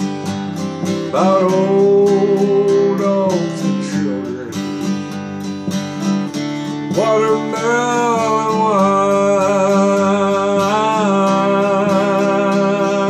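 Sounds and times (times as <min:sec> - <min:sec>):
acoustic guitar strumming: 0:00.0 - 0:13.0
man singing: 0:00.8 - 0:05.2, 0:06.7 - 0:13.0.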